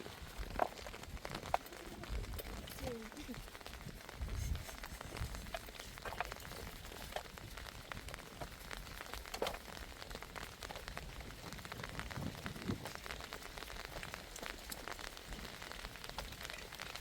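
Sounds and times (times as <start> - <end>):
rain falling: 0.0 - 17.0
raindrops tapping surfaces: 0.0 - 17.0.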